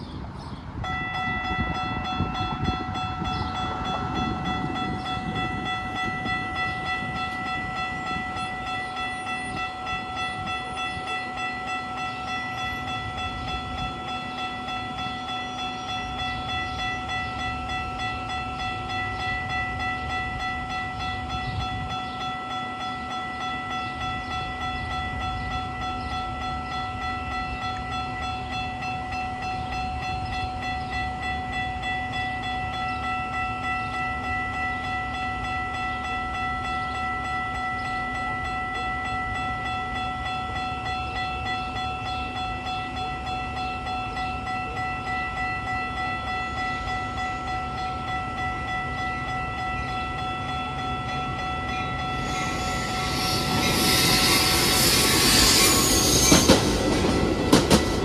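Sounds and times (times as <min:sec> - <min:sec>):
railroad crossing bell ringing: 0:00.0 - 0:58.0.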